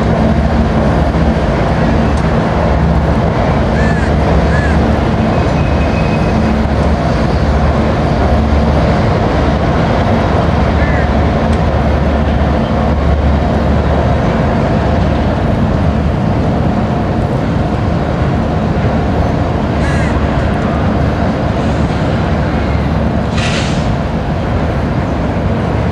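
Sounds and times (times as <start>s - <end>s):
freight train rumbling on bridge: 0.0s - 25.9s
locomotive engine drone: 0.0s - 25.9s.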